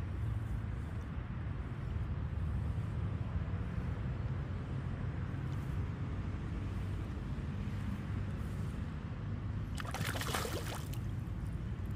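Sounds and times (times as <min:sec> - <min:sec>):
low rumbling background noise: 0:00.0 - 0:11.9.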